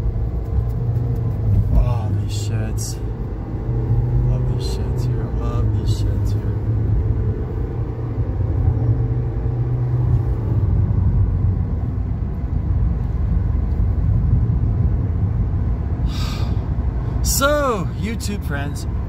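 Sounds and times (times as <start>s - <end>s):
faint engine drone: 0.0s - 17.5s
road noise inside car cabin: 0.0s - 19.0s.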